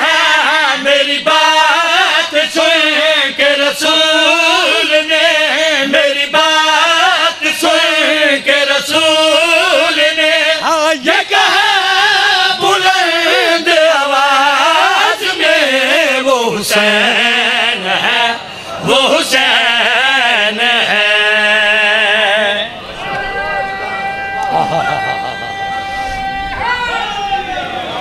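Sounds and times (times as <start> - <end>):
men chanting together: 0.0 - 23.2.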